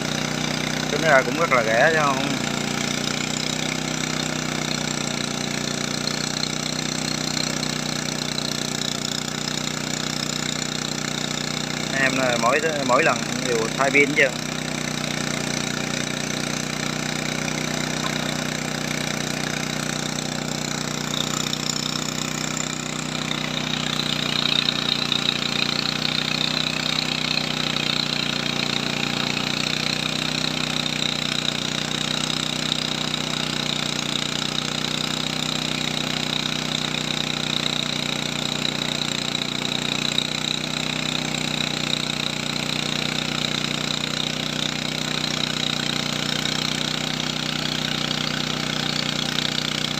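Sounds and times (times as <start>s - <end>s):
machine humming: 0.0s - 49.9s.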